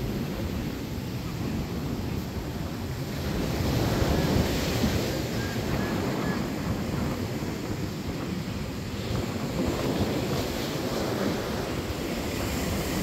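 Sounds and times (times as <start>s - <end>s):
surf on a beach: 0.0s - 13.0s
wind buffeting microphone: 0.0s - 13.0s.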